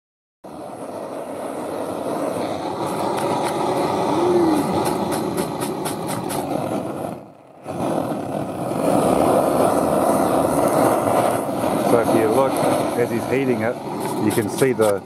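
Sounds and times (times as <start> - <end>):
gas torch flame rushing: 0.4 - 15.0
quick scrapes: 2.2 - 15.0.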